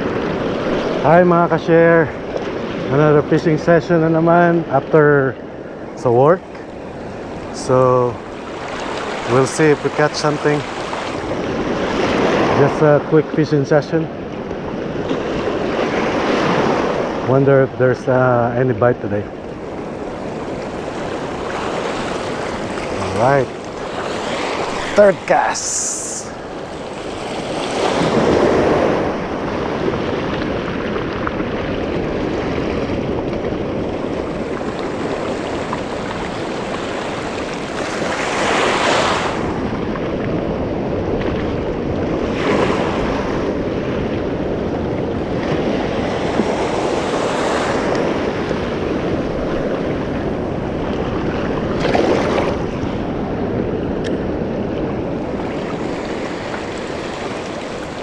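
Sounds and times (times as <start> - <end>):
small waves washing over reef: 0.0 - 58.0
wind on microphone: 0.0 - 58.0.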